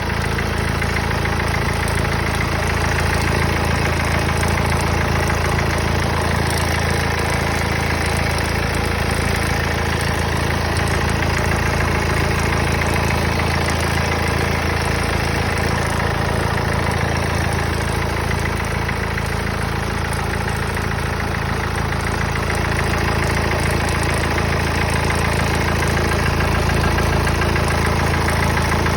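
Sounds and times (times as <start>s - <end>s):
diesel engine idling: 0.0s - 28.9s
unidentified engine noise: 0.0s - 28.9s.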